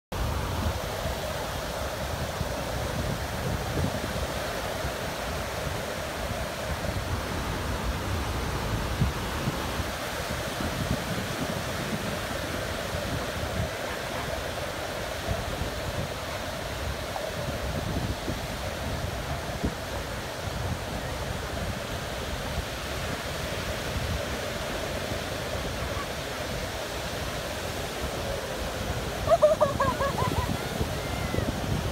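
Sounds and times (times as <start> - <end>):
waves breaking: 0.2 - 31.9
wind rumble on microphone: 0.2 - 31.9.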